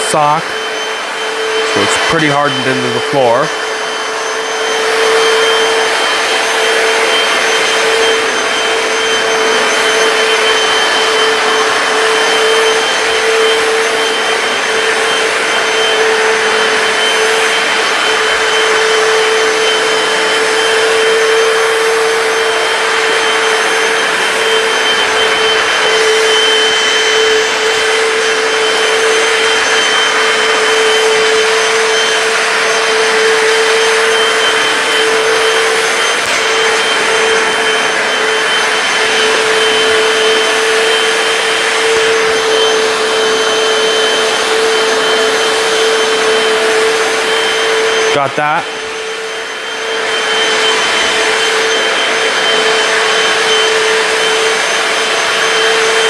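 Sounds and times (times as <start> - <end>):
floor cleaner motor whining: 0.0 - 56.0.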